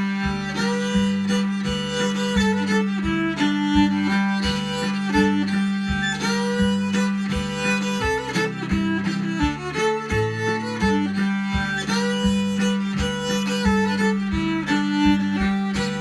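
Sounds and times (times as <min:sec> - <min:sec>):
fiddle playing a tune: 0:00.0 - 0:16.0
plucked strings keeping a beat: 0:00.0 - 0:16.0.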